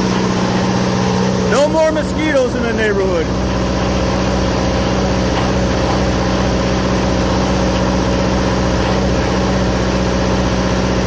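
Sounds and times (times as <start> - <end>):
diesel generator engine running: 0.0 - 11.0.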